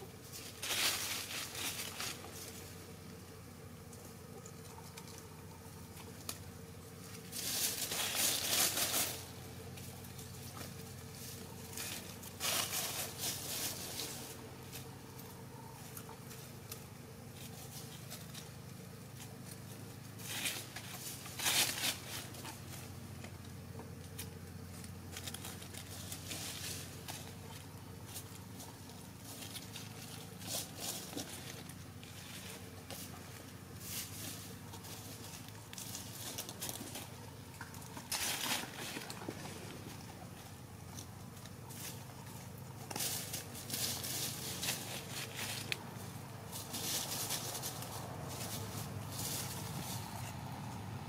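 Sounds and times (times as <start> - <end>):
dry leaves rustling: 0.0 - 51.0.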